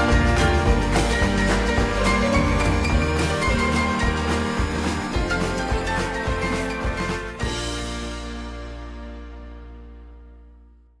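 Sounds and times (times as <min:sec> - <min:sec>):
music held chord: 0:00.0 - 0:10.9.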